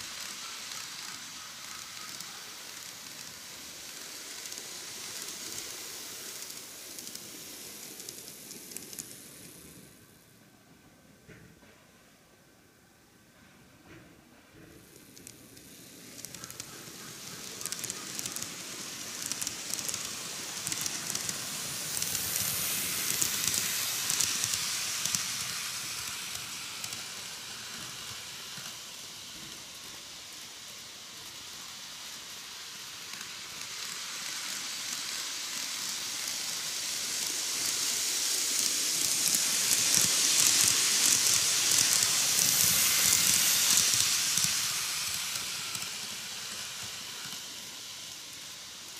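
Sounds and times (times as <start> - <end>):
model train running on track: 0.0 - 11.4, 13.8 - 48.9.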